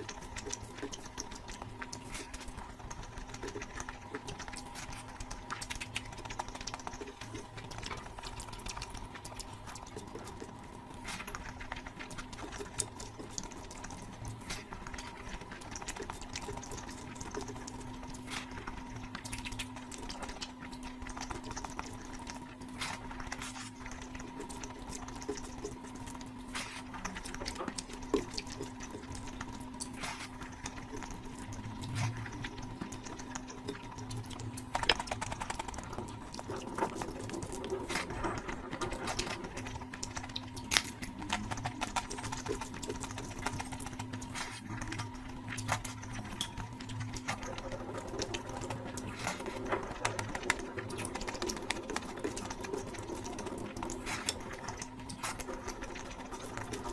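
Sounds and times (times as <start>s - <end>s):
wet chewing and smacking: 0.0s - 56.9s.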